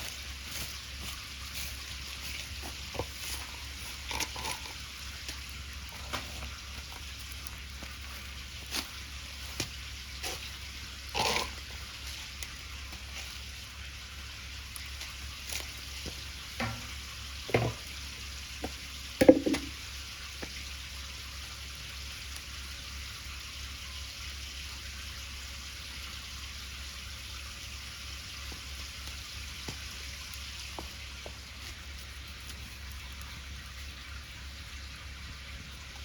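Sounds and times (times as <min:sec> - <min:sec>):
batter sizzling in a pan: 0:00.0 - 0:36.0.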